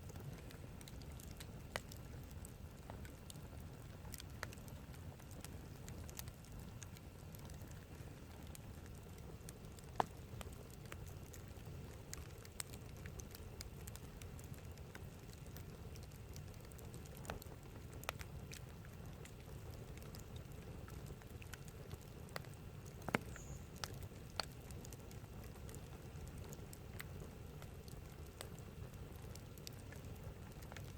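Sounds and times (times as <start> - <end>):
campfire crackling: 0.0 - 30.9
fire popping: 0.0 - 30.9
low steady rumble: 0.0 - 30.9.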